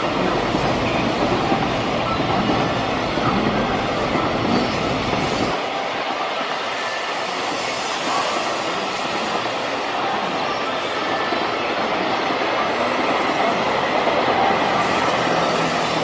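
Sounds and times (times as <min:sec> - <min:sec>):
freight train wheels on track: 0:00.0 - 0:16.0
train rattle and hiss: 0:00.0 - 0:16.0.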